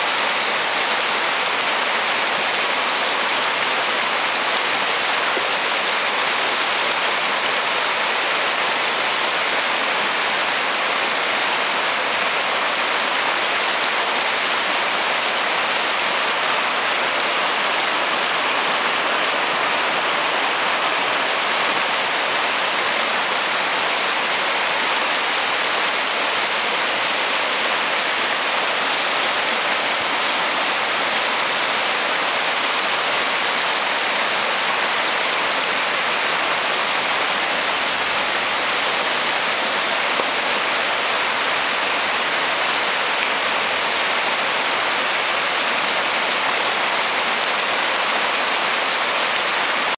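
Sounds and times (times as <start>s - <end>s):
river rushing over rocks: 0.0s - 49.9s.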